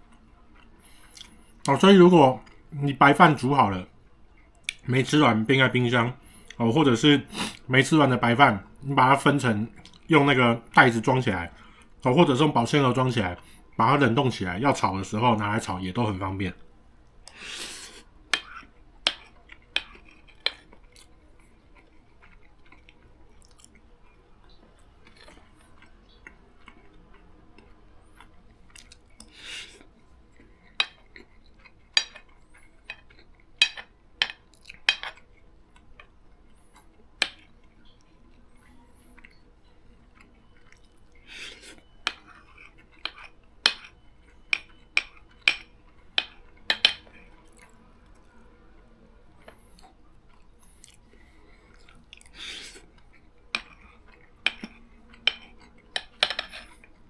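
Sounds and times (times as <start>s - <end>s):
soft chewing: 0.0s - 5.1s, 5.7s - 57.0s.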